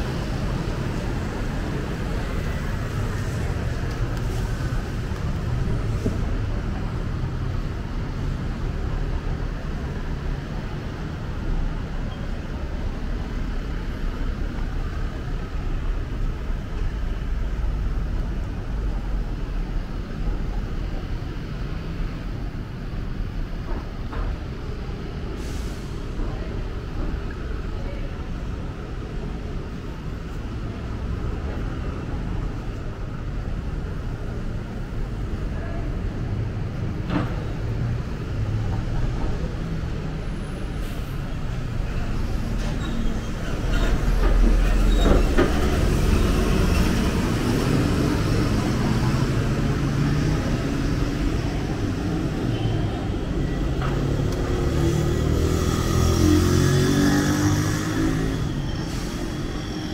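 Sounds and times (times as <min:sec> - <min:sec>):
low rumble of road traffic: 0:00.0 - 0:59.9.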